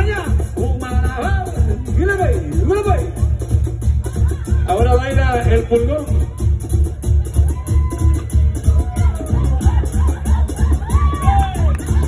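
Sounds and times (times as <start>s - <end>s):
loud bass beat: 0.0s - 12.0s.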